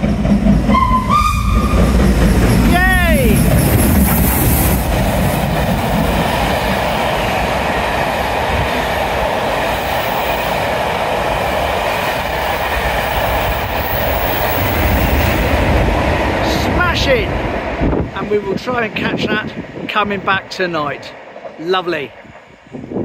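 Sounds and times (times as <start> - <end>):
train wheels running on rails: 0.0 - 23.0.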